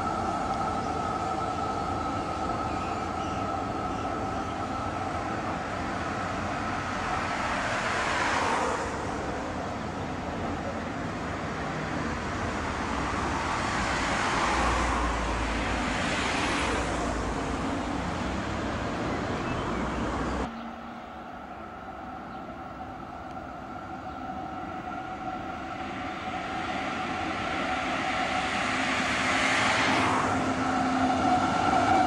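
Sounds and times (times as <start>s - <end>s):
cars passing: 0.0s - 32.0s
quiet street background: 0.0s - 32.0s
tram passing: 0.0s - 32.0s.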